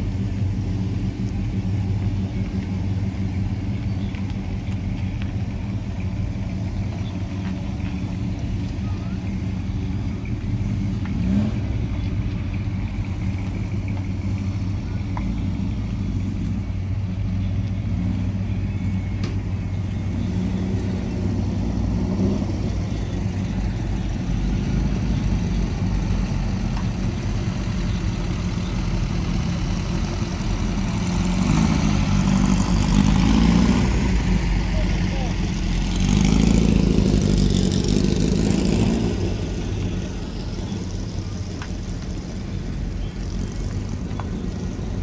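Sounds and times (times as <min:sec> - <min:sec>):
cars driving slowly past: 0:00.0 - 0:45.0.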